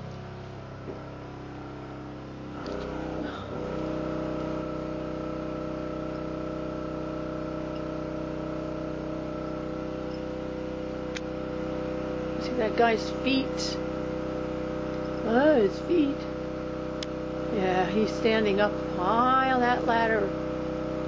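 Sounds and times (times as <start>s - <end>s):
portable generator engine running: 0.0s - 21.0s.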